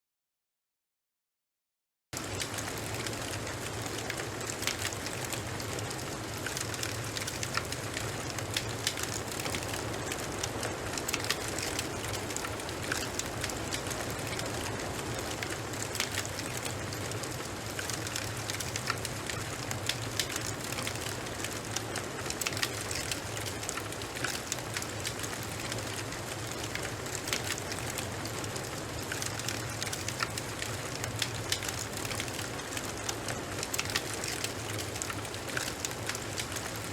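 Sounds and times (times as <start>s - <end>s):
wood fire crackling: 2.2s - 36.9s.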